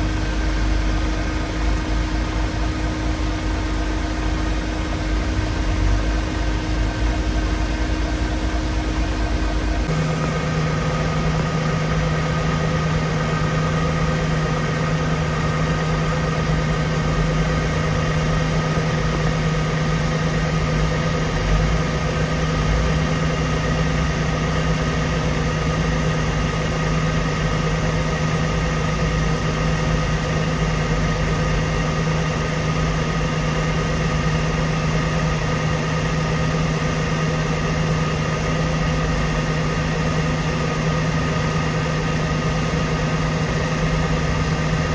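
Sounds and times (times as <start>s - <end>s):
engine droning steadily: 0.0s - 44.9s.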